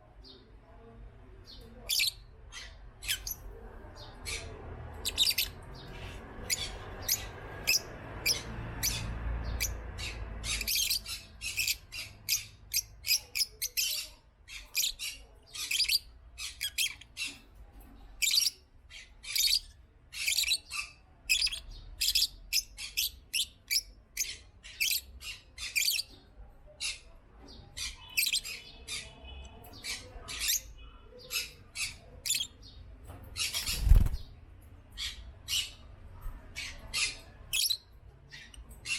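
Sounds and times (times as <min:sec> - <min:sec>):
lovebirds chirping and squawking: 0:01.4 - 0:38.9.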